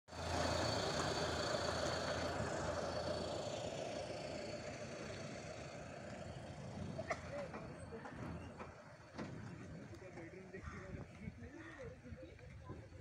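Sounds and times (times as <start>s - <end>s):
motor vehicle engine running: 0.1s - 13.0s.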